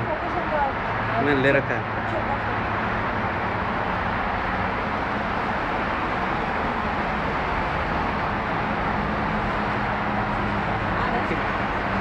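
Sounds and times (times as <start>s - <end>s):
distant city traffic roar: 0.0s - 12.0s.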